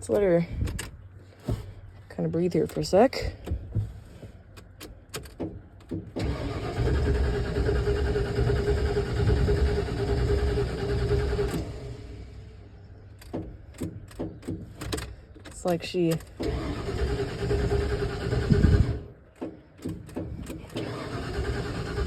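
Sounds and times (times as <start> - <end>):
truck engine cranking: 0.0 - 22.0.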